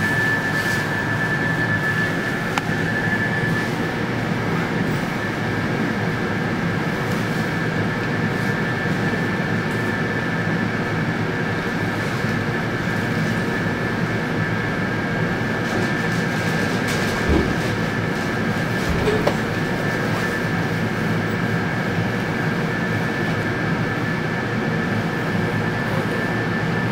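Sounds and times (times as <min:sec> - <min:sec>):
train equipment humming: 0:00.0 - 0:23.6
high whine: 0:00.0 - 0:24.0.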